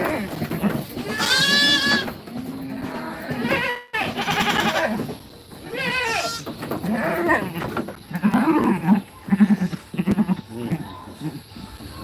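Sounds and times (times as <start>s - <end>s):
goat kids bleating: 0.0s - 2.2s, 2.8s - 11.4s.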